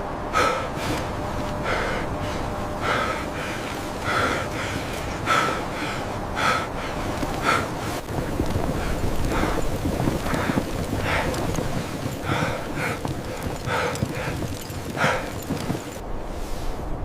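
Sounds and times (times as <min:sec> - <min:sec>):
men breathing hard: 0:00.3 - 0:16.0.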